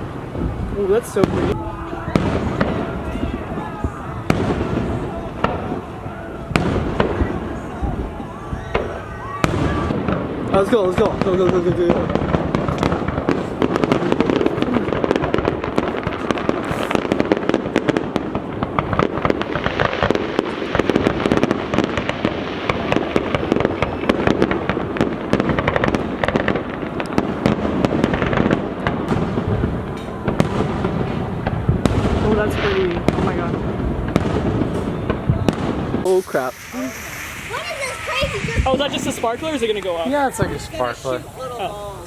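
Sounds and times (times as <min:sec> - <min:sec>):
fireworks crackling: 0:00.0 - 0:42.0.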